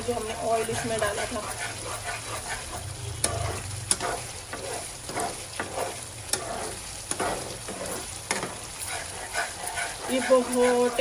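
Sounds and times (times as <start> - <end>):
fork scraping a pan: 0.0 - 11.0
meat sizzling in oil: 0.0 - 11.0.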